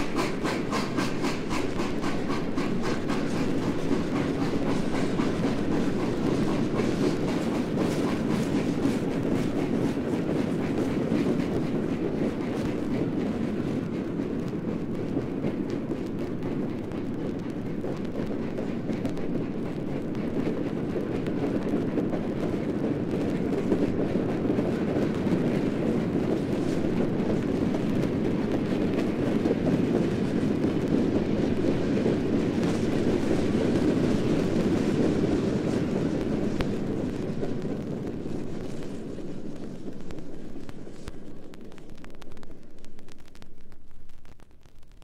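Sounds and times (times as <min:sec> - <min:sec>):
train wheels rumbling: 0:00.0 - 0:44.9.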